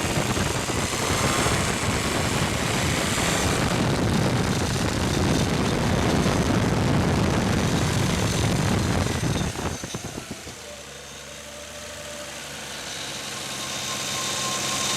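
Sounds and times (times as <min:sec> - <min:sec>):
car engine revving and idling: 0:00.0 - 0:14.9.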